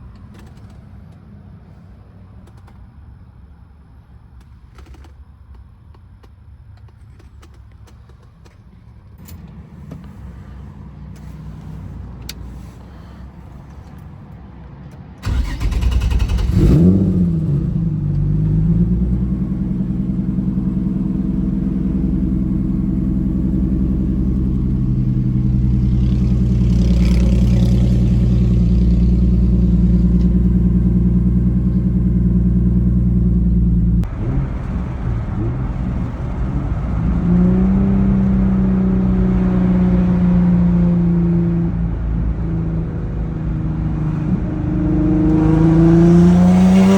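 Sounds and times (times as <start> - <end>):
car engine starting and idling: 0.0 - 46.9.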